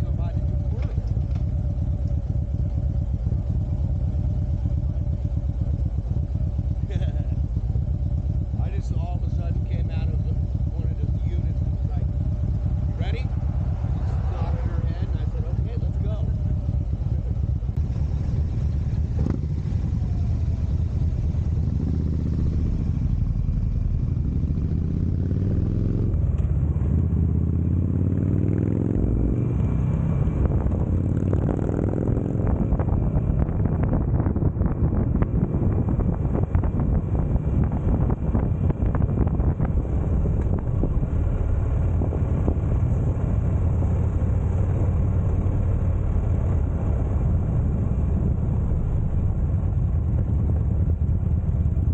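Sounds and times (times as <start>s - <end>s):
motorcycle engine shifting gears: 0.0s - 51.9s.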